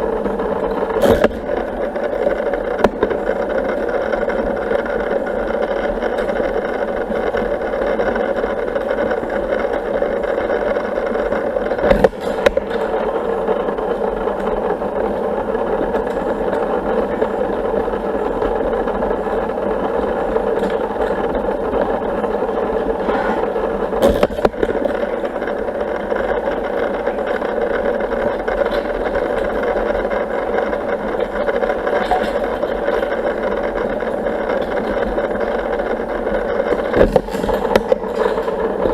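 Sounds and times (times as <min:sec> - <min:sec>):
pool pump humming: 0:00.0 - 0:38.9.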